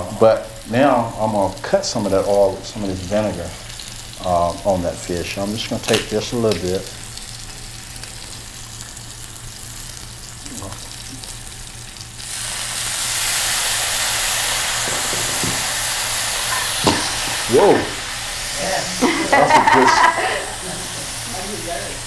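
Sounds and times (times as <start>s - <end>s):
fish sizzling in oil: 0.0s - 22.0s
vinegar hissing in hot oil: 0.0s - 22.0s.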